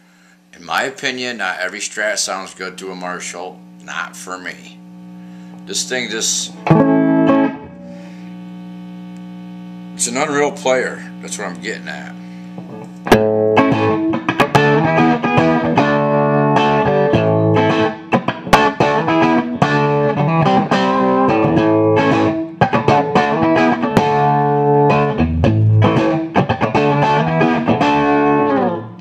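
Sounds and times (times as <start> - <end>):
electric guitar chords and notes: 3.6 - 29.0.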